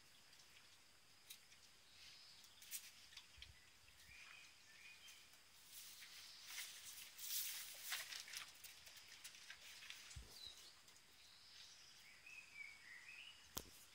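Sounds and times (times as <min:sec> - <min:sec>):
bird chirp: 0:00.0 - 0:07.0, 0:08.8 - 0:13.9.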